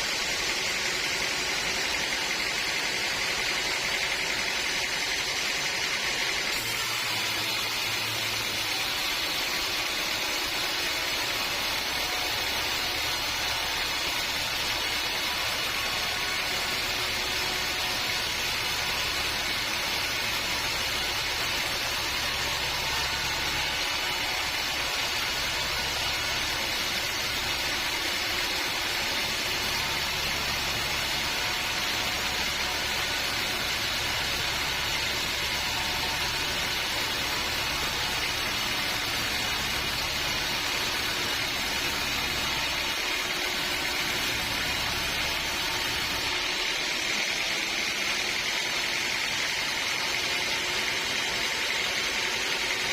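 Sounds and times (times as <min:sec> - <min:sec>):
sawmill machine running: 0:00.0 - 0:52.9.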